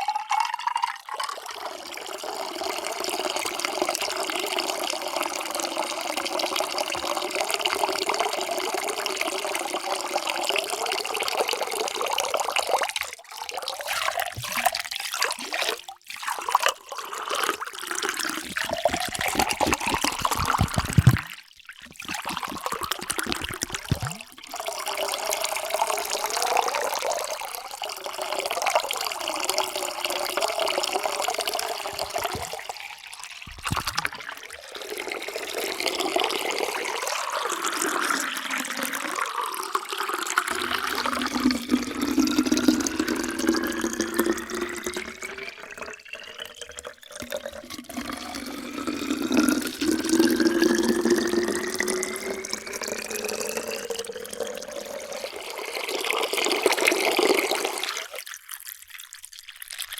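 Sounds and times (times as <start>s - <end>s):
water pouring into container: 0.0s - 59.9s.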